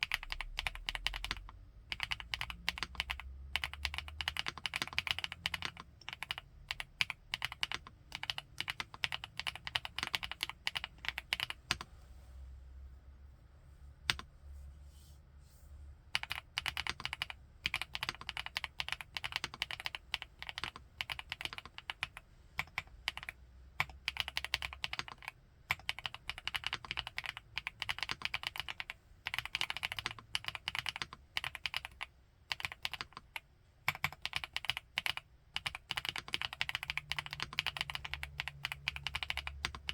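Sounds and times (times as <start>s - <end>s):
mechanical keyboard typing: 0.0s - 11.9s, 14.1s - 14.3s, 16.2s - 39.9s.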